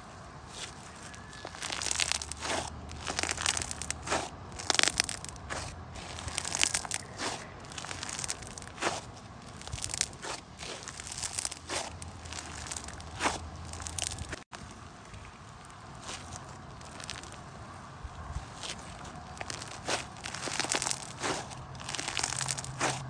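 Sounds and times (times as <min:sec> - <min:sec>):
slime squeezed crackling and popping: 0:00.6 - 0:14.4, 0:15.6 - 0:17.5, 0:18.5 - 0:23.0.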